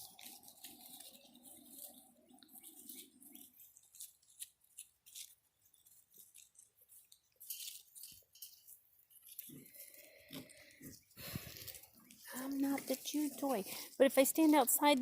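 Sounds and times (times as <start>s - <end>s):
puppies chewing and scrabbling: 0.0s - 15.0s.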